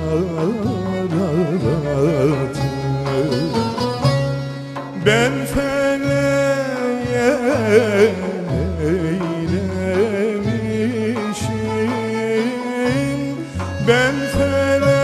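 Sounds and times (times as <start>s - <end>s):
folk music with ornamented melody: 0.0s - 15.0s.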